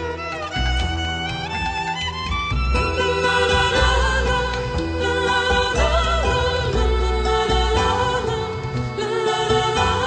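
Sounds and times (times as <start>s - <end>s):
melodic music with strong bass: 0.0s - 10.0s.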